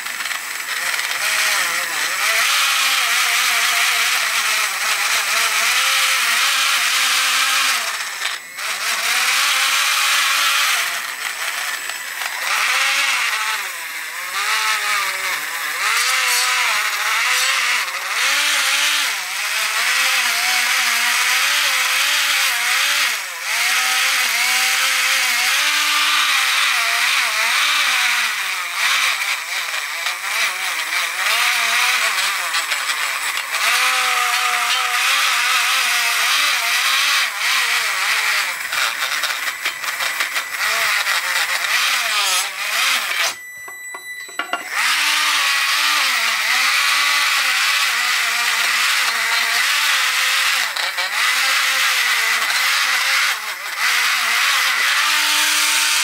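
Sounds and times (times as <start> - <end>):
rotary tool motor whine: 0.0 - 56.0.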